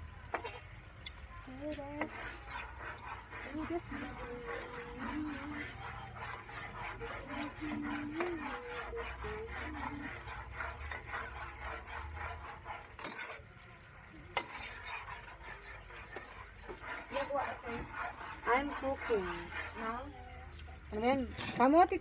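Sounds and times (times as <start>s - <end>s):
light frying sizzle: 0.0s - 22.0s
utensil scraping cooking pan: 0.1s - 22.0s.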